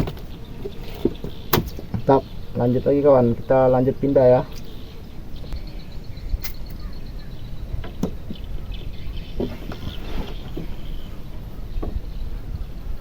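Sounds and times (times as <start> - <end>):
low rumble of wind and water: 0.0 - 13.0.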